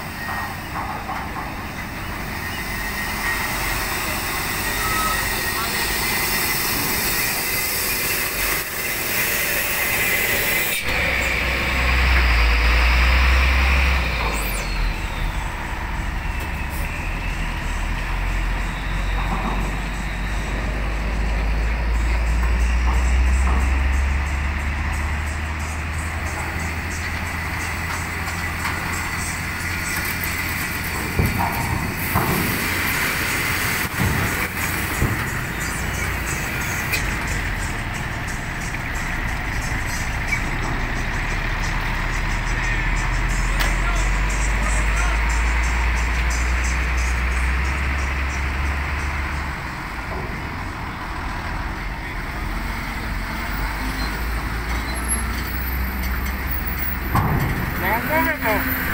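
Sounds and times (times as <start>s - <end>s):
diesel truck engines running: 0.0s - 58.9s
tyres and machinery noise: 0.0s - 58.9s
wheels clanking on steel ramp: 0.0s - 58.9s
deep low drone: 1.4s - 55.6s.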